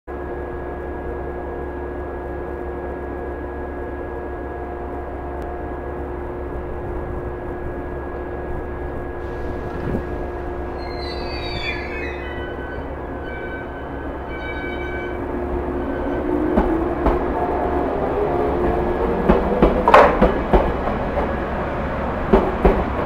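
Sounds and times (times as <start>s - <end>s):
electric train humming: 0.2s - 23.0s.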